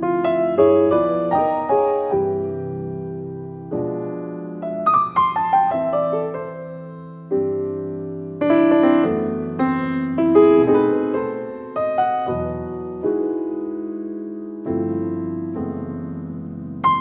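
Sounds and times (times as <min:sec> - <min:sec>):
piano chords and runs: 0:00.0 - 0:17.0.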